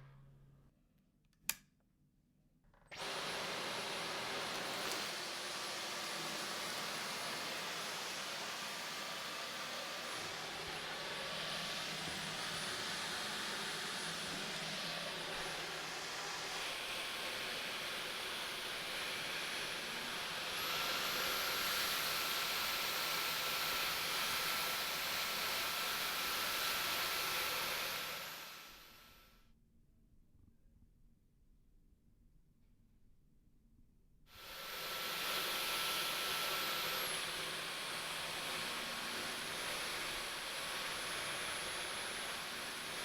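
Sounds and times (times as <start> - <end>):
motor winding down: 2.9 - 29.0, 34.4 - 43.0
cordless vacuum cleaner whine: 2.9 - 29.3, 34.3 - 43.0.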